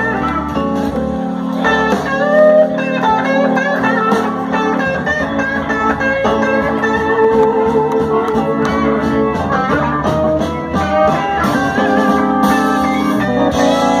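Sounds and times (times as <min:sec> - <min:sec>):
bass guitar: 0:00.0 - 0:14.0
drums: 0:00.0 - 0:14.0
lead electric guitar: 0:00.0 - 0:14.0.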